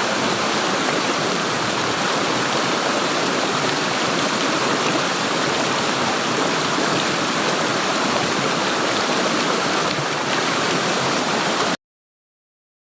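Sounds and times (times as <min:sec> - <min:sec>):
water gurgling and running: 0:00.0 - 0:11.8.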